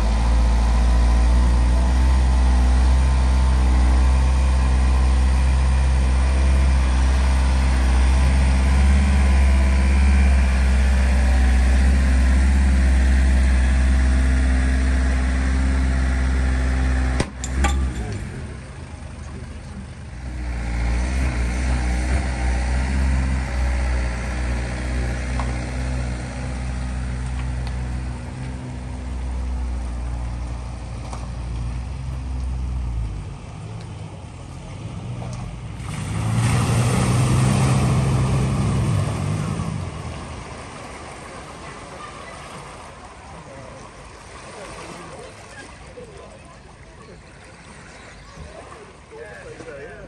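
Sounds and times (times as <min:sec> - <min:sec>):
vehicle passing with rush: 0:00.0 - 0:46.1
vehicle engine droning: 0:00.0 - 0:50.0.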